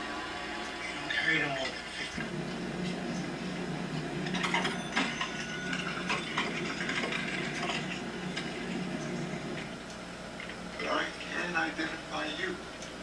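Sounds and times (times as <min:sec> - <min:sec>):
steady low hum: 0:02.1 - 0:13.0.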